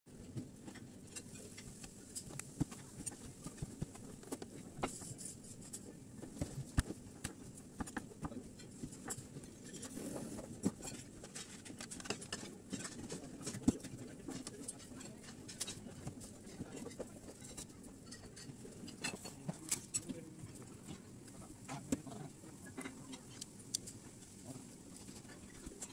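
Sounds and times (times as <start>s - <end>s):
low kitchen hum: 0.1s - 25.9s.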